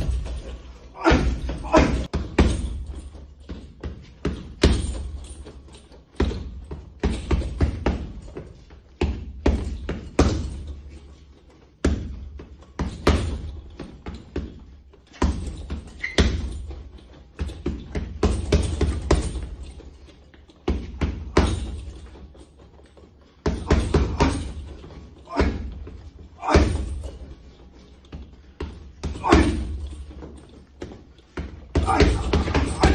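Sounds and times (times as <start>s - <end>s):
boxing gloves punching heavy bag: 0.0s - 11.1s, 11.8s - 22.8s, 23.4s - 32.9s.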